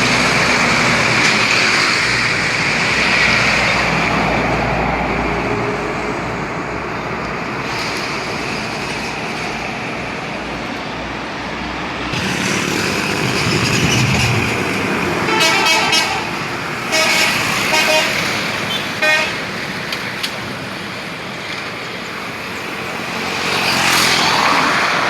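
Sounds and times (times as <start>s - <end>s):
road traffic rushing past: 0.0s - 25.0s.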